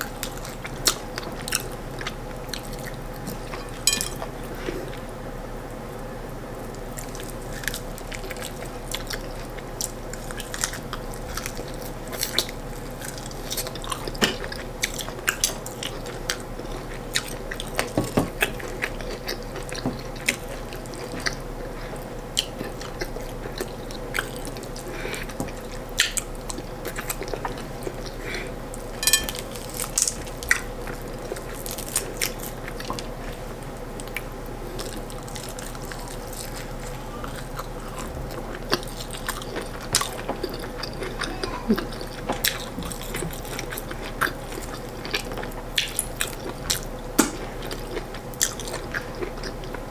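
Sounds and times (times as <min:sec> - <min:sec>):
person chewing food: 0:00.0 - 0:05.2, 0:06.7 - 0:49.9
faint steady hum: 0:00.0 - 0:49.9.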